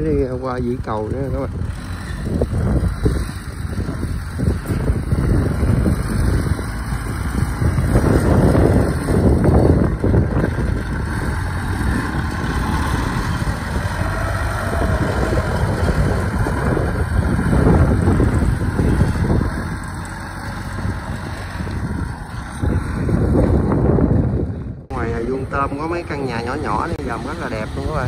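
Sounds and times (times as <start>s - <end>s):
tracked vehicle engine running: 0.0s - 28.0s.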